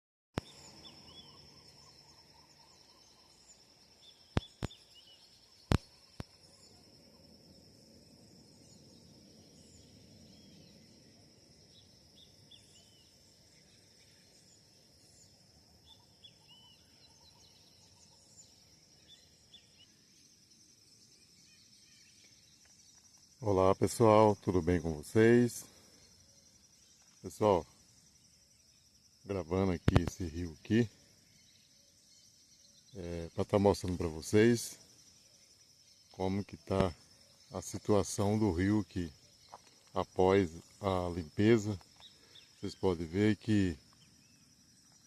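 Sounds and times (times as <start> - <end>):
bird chirps: 0.4 - 45.0
insect trill: 0.4 - 45.0.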